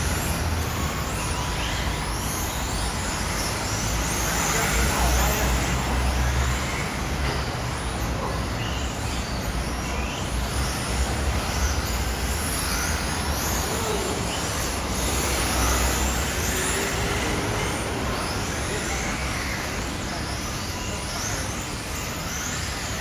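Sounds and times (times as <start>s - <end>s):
remote control car motors whining: 0.0s - 23.0s
street noise: 0.0s - 23.0s.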